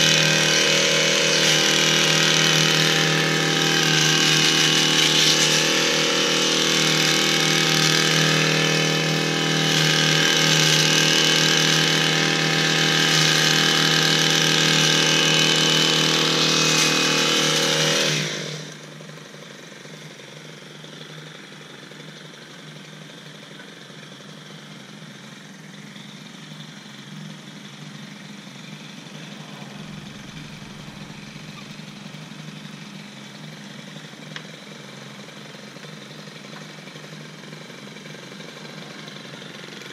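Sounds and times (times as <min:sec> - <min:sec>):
hedge trimmer engine running: 0:00.0 - 0:39.9.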